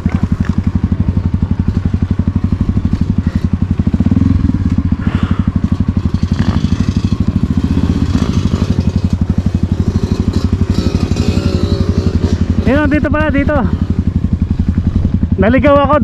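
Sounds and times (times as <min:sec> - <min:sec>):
motorcycle engine chugging: 0:00.0 - 0:16.0.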